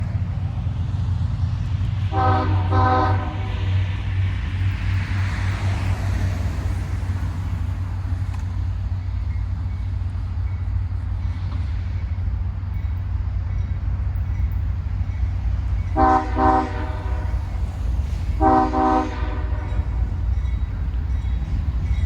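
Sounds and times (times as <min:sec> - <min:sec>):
diesel locomotive drone: 0:00.0 - 0:22.0
locomotive hiss: 0:01.7 - 0:22.0.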